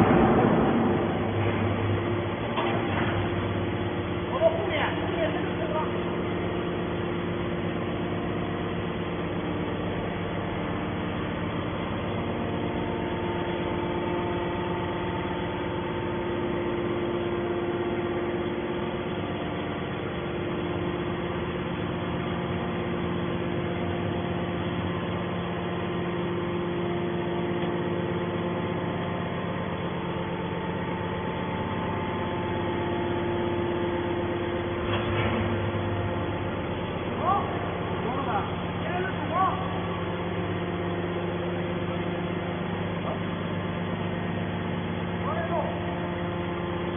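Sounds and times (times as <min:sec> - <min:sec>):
baler motor and pump humming: 0:00.0 - 0:46.9.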